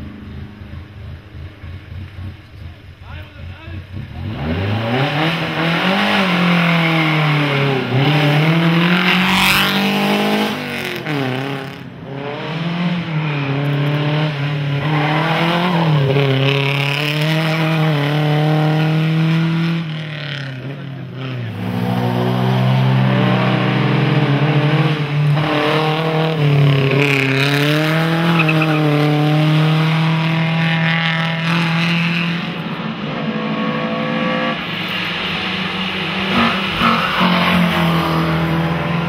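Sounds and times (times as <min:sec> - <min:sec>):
racing car engine accelerating: 0:04.0 - 0:39.0.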